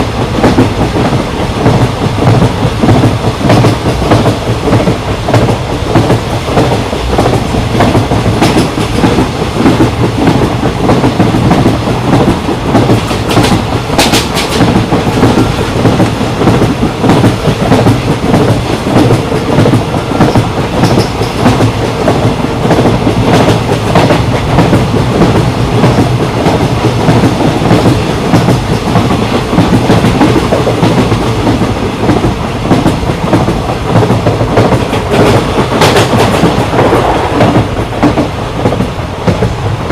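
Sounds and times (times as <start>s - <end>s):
train wheels rumbling on rail: 0.0s - 39.9s
wheels clickety-clack over rail joints: 0.0s - 39.9s.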